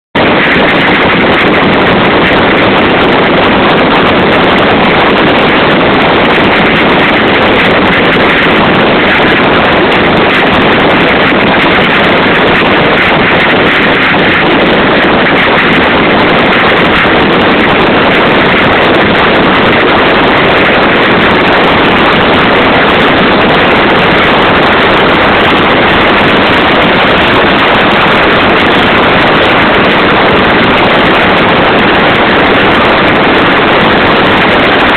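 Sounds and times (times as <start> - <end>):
boat engine: 0.2 - 34.9
water rushing: 0.2 - 34.9.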